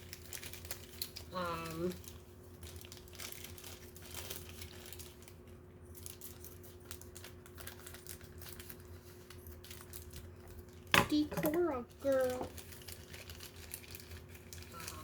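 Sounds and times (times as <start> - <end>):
plastic packaging rustling: 0.0 - 15.0.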